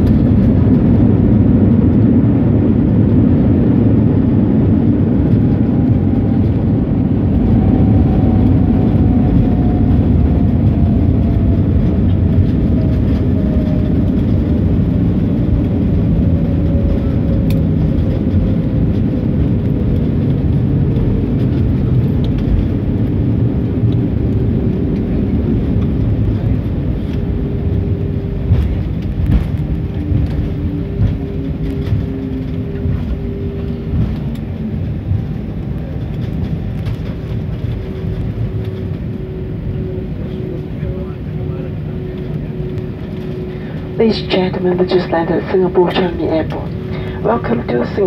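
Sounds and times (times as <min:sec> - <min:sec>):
falling hum: 0:00.0 - 0:48.0
rumble of wheels and engines: 0:00.0 - 0:48.0.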